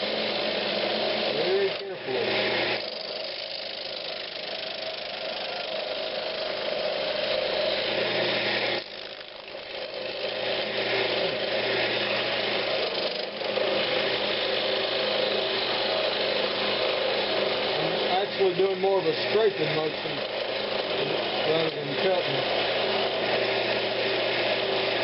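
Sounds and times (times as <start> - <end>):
lathe motor hum: 0.0 - 25.0
tool cutting spinning wood: 0.0 - 25.0.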